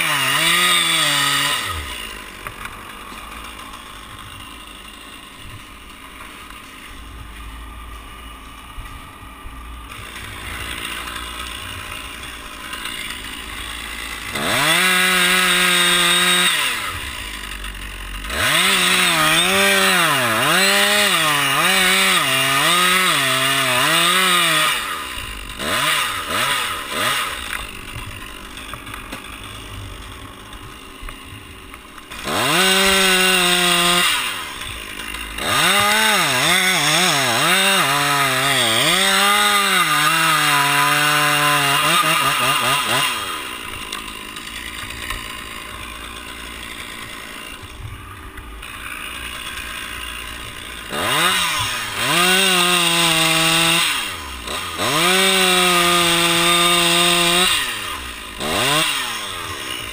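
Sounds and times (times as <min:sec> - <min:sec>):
chainsaw engine revving: 0:00.0 - 0:59.9
chainsaw sawing into trunk: 0:00.0 - 0:59.9.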